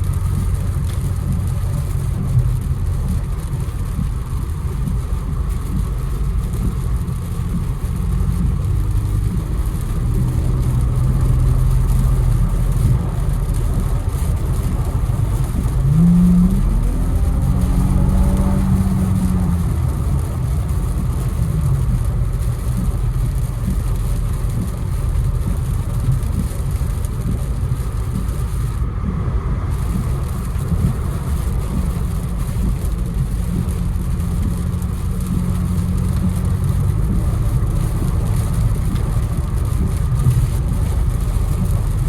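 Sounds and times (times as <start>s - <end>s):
low car engine note: 0.0s - 42.0s
tyre and rain hiss: 0.0s - 42.0s.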